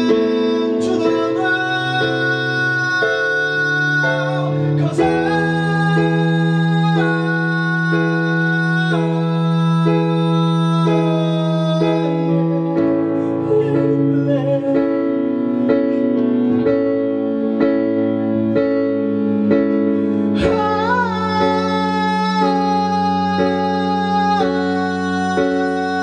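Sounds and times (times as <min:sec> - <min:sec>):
man singing without words: 0:00.0 - 0:15.7, 0:20.4 - 0:26.0
keyboard piano chords: 0:00.0 - 0:26.0.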